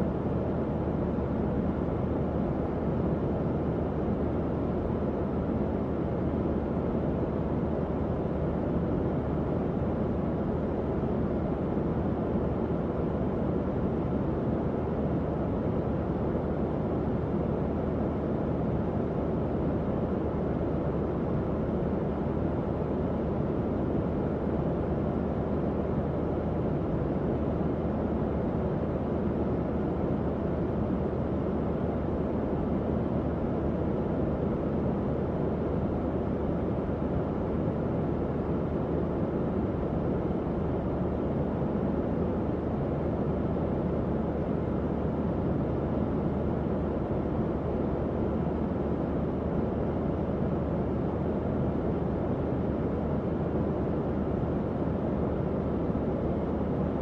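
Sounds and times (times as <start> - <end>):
faint fan hum: 0.0 - 57.0.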